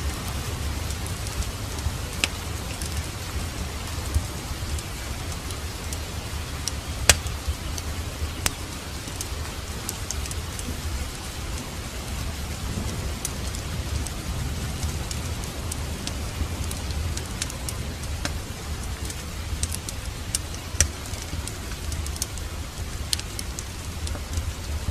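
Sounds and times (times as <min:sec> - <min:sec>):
steady rain: 0:00.0 - 0:24.9
wood fire crackling and popping: 0:00.0 - 0:24.9.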